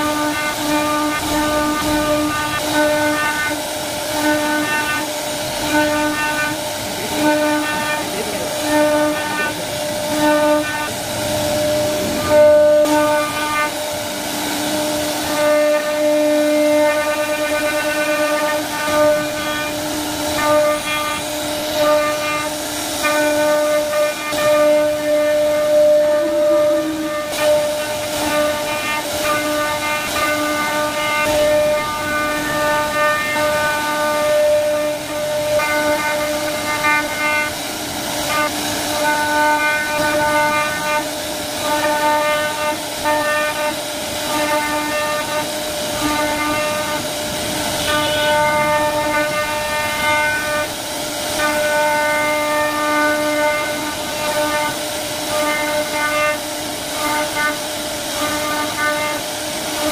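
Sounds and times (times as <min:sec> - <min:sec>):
router spindle cutting wood: 0:00.0 - 0:50.8.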